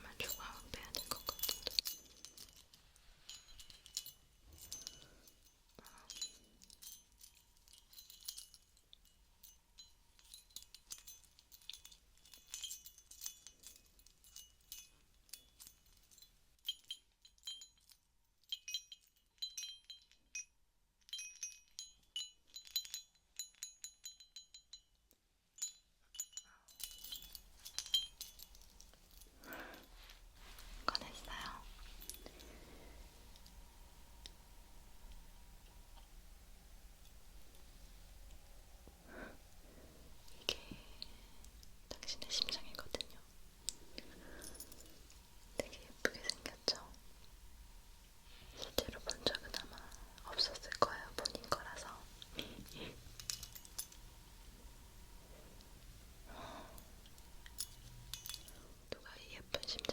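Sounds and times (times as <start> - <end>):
small bell tinkling: 0.0 - 59.9.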